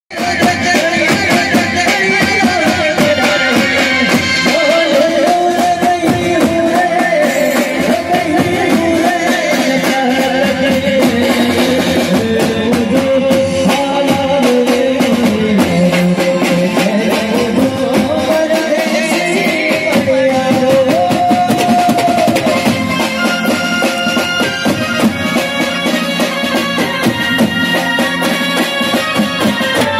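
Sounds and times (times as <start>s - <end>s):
dhol and drum kit beats: 0.1s - 29.9s
keyboard melody: 0.1s - 29.9s.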